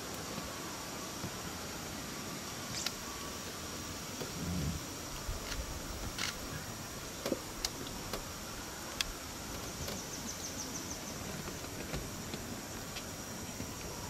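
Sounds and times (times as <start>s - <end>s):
background hiss: 0.0s - 14.0s
insect drone: 0.0s - 14.0s.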